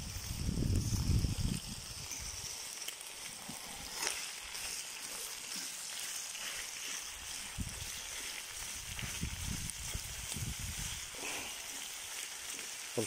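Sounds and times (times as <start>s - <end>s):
onion and meat sizzling in oil: 0.0s - 13.0s.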